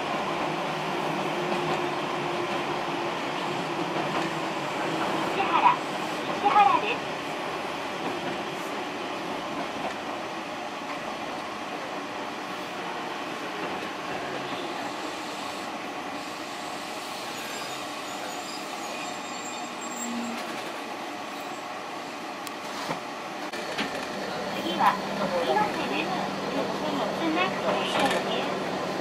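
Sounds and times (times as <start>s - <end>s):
train running inside car: 0.0s - 29.0s.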